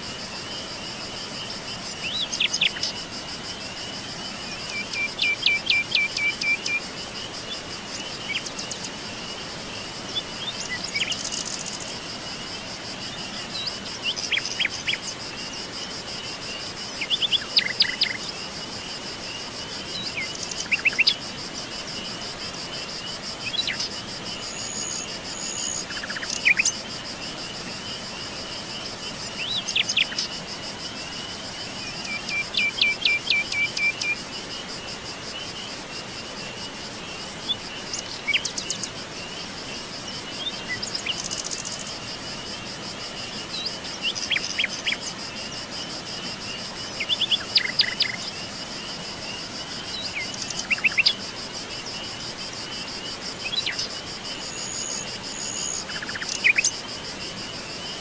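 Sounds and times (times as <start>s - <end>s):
pulsing insect chorus: 0.0s - 58.0s.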